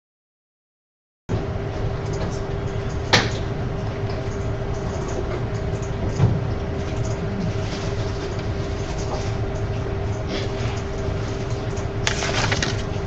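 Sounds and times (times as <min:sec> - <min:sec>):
machinery humming and rumbling: 0:01.3 - 0:13.0.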